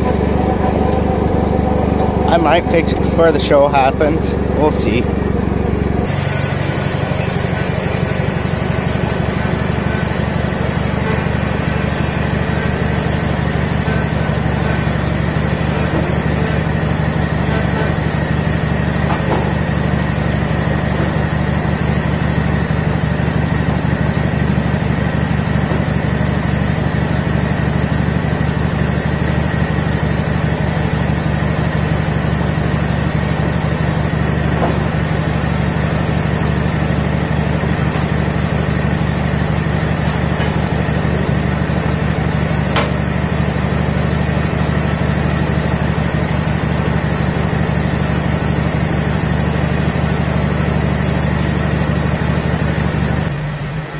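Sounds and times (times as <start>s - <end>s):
tractor engine idling: 0.0s - 53.9s.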